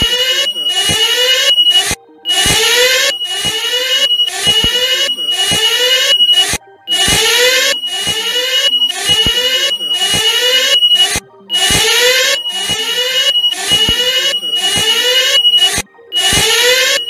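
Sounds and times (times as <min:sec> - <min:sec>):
rising siren sweeps: 0:00.0 - 0:17.0
steady high beep tone: 0:00.0 - 0:17.0.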